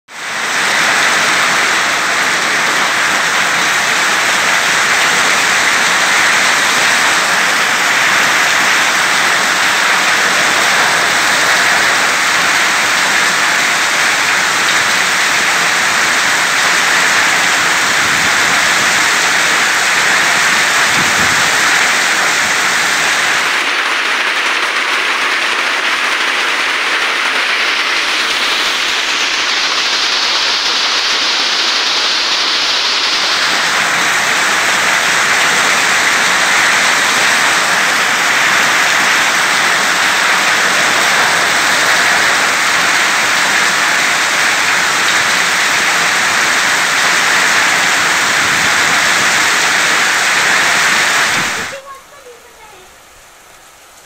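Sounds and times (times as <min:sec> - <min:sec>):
heavy rain and hail: 0:00.1 - 0:54.0.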